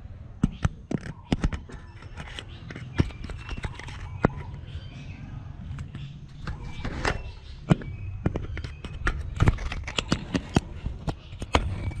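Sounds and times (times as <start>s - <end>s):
bird bill tapping and knocking: 0.4s - 4.6s, 5.7s - 12.0s.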